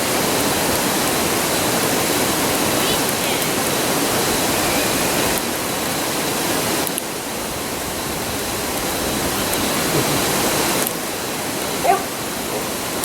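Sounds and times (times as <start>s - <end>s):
faint campfire crackles: 0.0s - 13.0s
river rushing: 0.0s - 13.0s.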